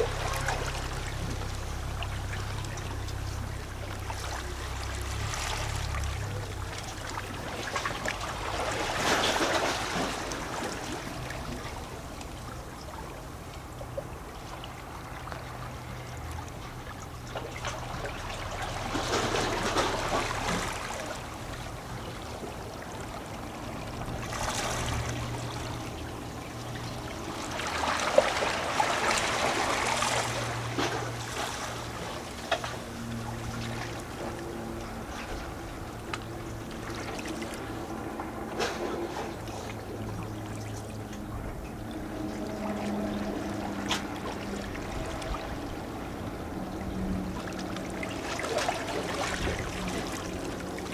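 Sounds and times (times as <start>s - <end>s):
waves lapping against rocks: 0.0s - 50.9s.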